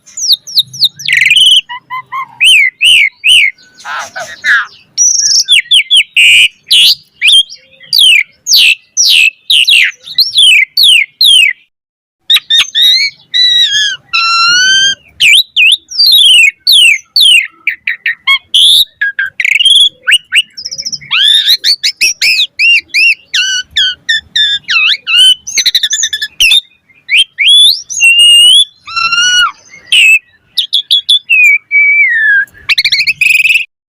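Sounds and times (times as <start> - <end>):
starling singing whistles and chirps: 0.0 - 33.7.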